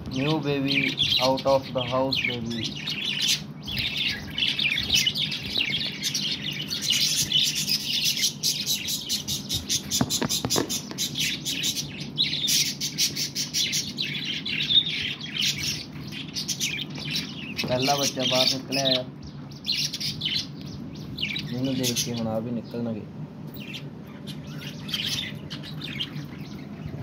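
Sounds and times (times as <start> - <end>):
budgerigars chattering: 0.1 - 27.0.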